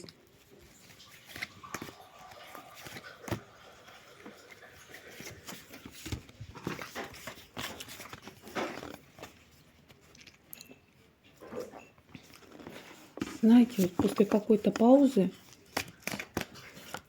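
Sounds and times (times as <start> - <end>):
cards being shuffled: 0.0 - 10.5, 12.1 - 17.0.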